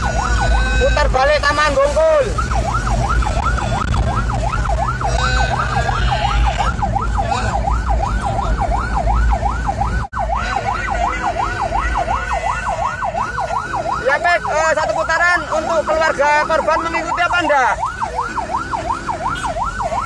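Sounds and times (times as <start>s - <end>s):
emergency siren yelping: 0.0s - 20.0s
vehicle rumble: 0.0s - 20.0s.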